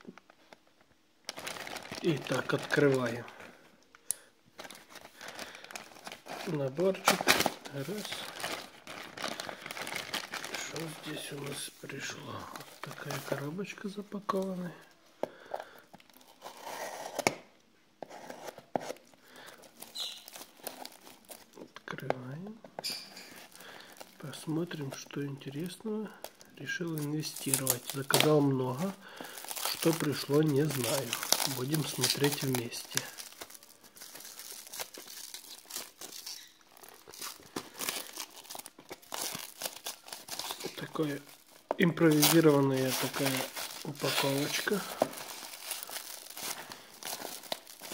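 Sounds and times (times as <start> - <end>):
plastic wrapping crinkling and tearing: 0.0 - 3.4, 4.5 - 14.8, 18.9 - 47.9.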